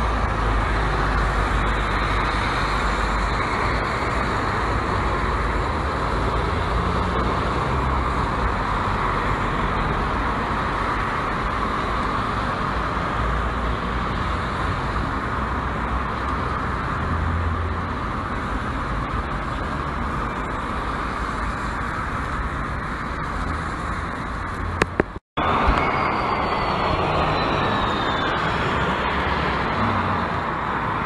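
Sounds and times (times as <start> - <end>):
cars driving past: 0.0 - 31.0.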